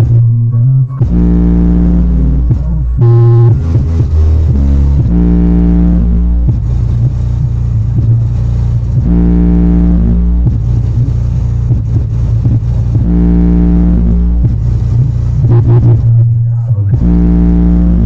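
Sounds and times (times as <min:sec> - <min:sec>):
loud bass-heavy instrumental music: 0:00.0 - 0:18.0
steady low rumble: 0:00.0 - 0:18.0.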